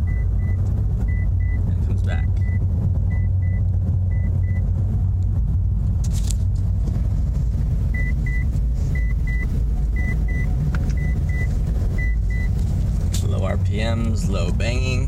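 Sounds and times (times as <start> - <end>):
drivetrain rumbling and banging: 0.0 - 15.0.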